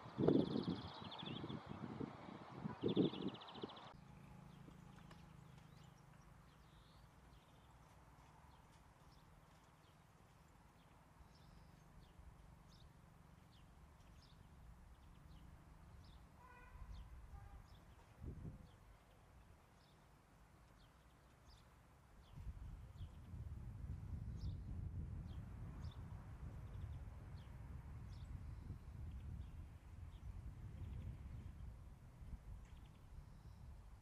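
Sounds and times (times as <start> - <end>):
distant small birds chirping: 0.0 - 23.5, 24.3 - 34.0.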